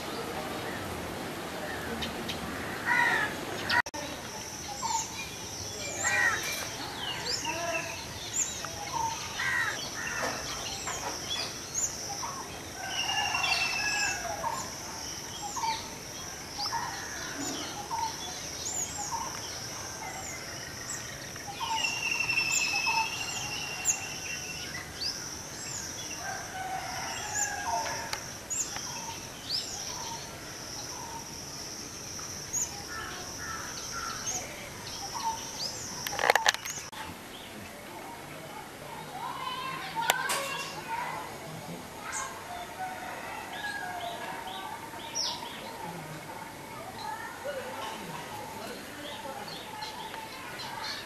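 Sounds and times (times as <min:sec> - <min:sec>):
small birds chirping: 0:03.4 - 0:41.4, 0:43.6 - 0:51.0.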